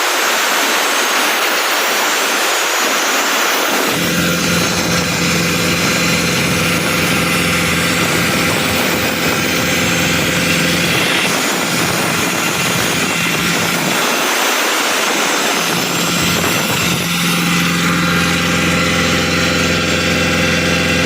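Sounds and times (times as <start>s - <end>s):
rock drilling rig running: 0.0s - 21.0s.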